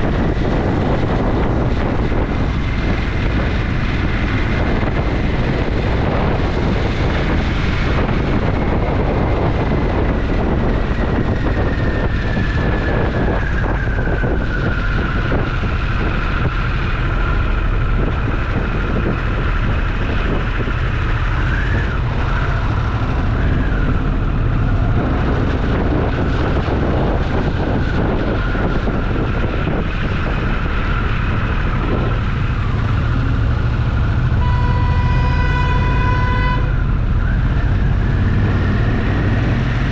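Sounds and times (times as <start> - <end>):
motorcycle engine running: 0.0 - 35.2
wind buffeting microphone: 0.0 - 39.9.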